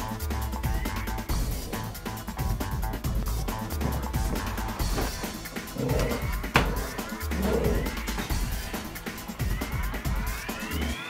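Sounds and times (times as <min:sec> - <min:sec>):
music with beat and deep bass: 0:00.0 - 0:11.0.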